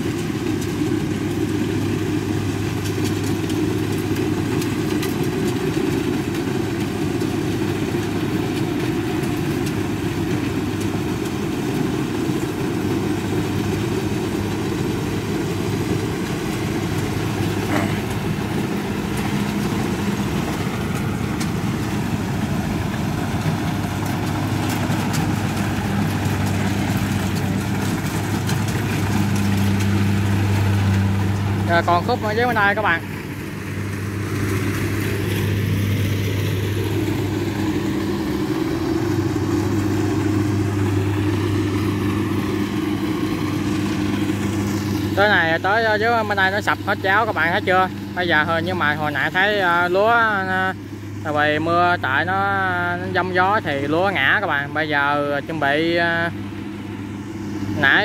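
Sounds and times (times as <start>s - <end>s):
combine harvester diesel engine humming: 0.0s - 58.0s.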